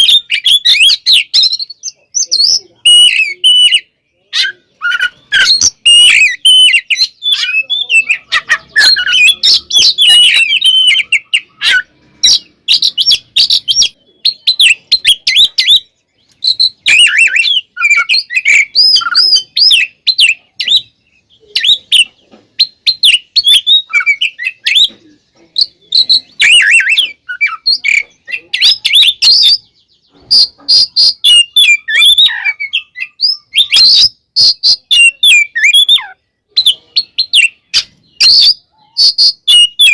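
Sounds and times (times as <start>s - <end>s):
bird singing loudly: 0.0s - 39.9s.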